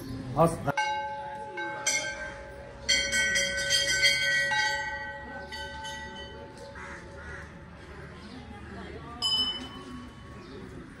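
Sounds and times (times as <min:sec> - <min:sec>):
temple bells ringing: 0:00.7 - 0:07.8, 0:09.2 - 0:11.0.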